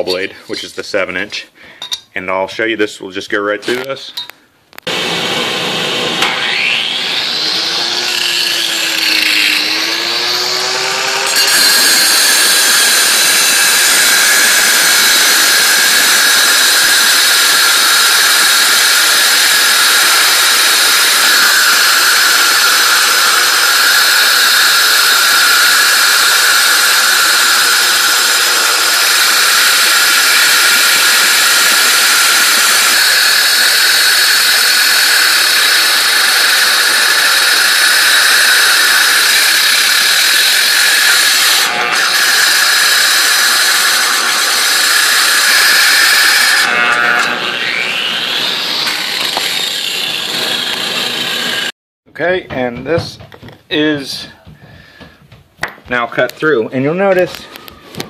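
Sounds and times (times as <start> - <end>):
angle grinder cutting concrete: 4.8 - 51.8.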